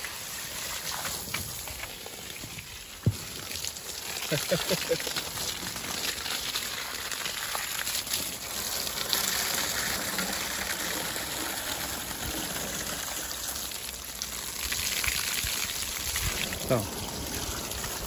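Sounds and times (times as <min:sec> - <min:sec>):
water gushing from a hose: 0:00.0 - 0:18.0.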